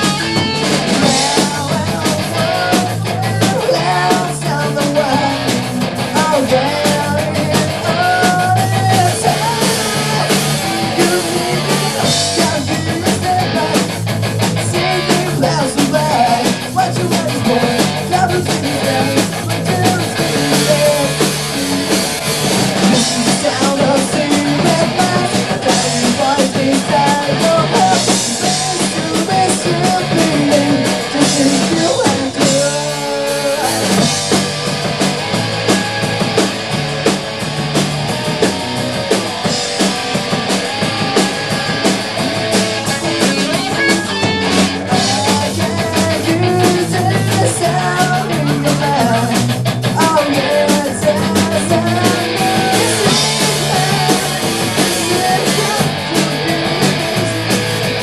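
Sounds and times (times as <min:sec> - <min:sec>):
person singing: 0:00.0 - 0:21.4, 0:22.8 - 0:37.3, 0:38.3 - 0:57.8
punk rock band playing: 0:00.0 - 0:58.0.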